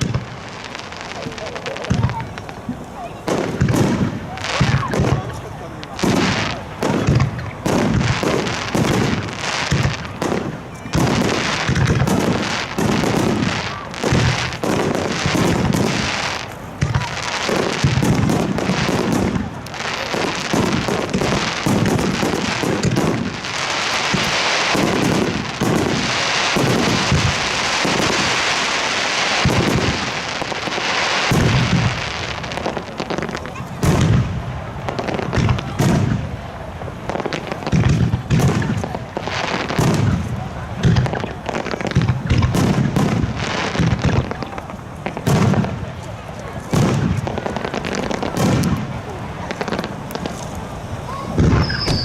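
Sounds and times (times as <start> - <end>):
dense fireworks crackling: 0.0 - 52.0
fireworks bursting with booms: 0.0 - 52.0.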